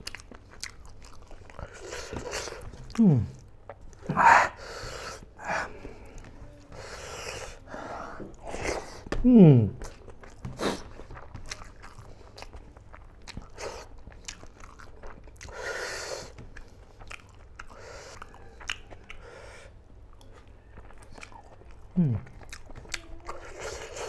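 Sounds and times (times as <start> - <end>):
man chewing food: 0.0 - 24.0.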